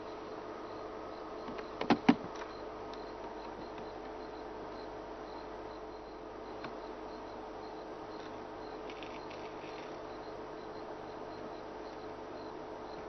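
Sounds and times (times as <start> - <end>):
background hiss: 0.0 - 13.0
insects chirping: 0.0 - 13.0.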